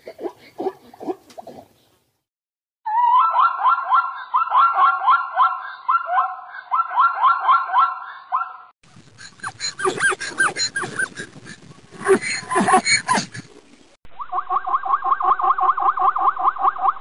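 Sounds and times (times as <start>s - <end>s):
gliding animal calls: 2.9s - 17.0s.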